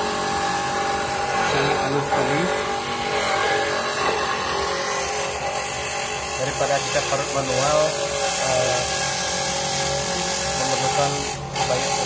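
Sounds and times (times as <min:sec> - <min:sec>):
electric coconut grater humming: 0:00.0 - 0:12.0.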